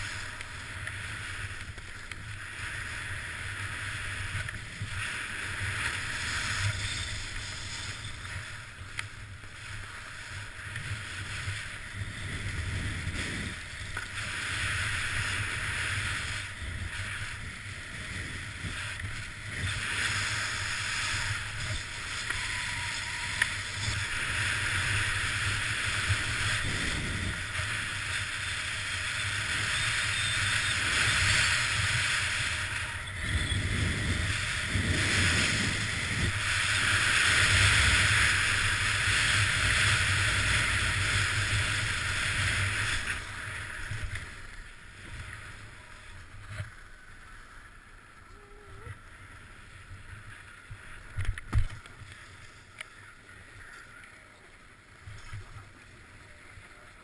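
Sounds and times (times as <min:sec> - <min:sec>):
skis scraping over snow: 0:00.0 - 0:48.3, 0:48.9 - 0:57.0
low wind rumble: 0:00.0 - 0:56.7.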